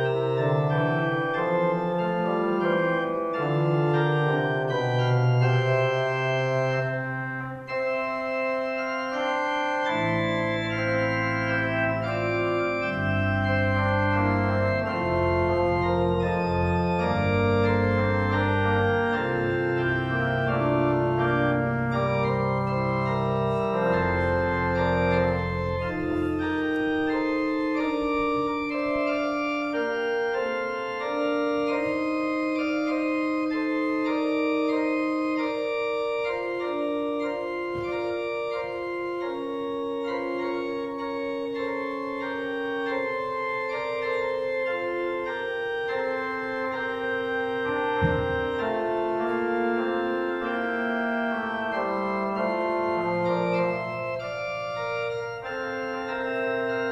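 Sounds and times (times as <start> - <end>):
organ chords: 0.0 - 56.9.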